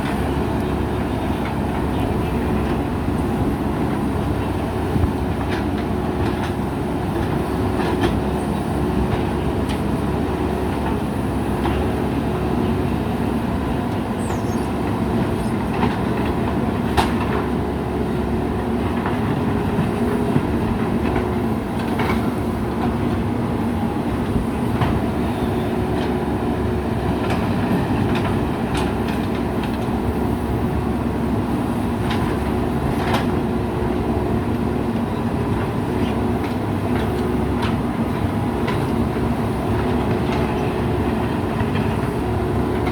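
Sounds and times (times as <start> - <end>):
diesel engine running under load: 0.0 - 42.9.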